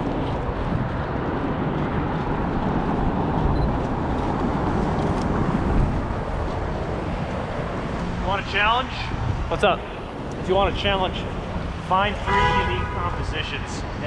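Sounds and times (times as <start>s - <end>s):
wind on microphone: 0.0s - 12.8s
street traffic rumble: 0.0s - 14.0s.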